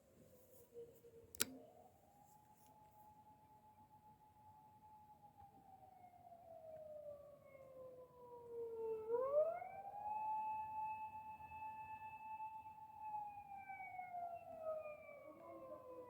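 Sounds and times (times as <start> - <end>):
emergency vehicle wail siren: 2.9 - 16.0.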